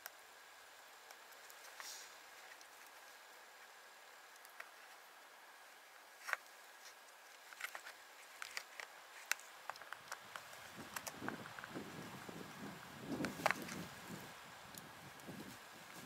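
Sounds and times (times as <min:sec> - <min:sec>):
soft handling rustle: 0:00.8 - 0:16.0.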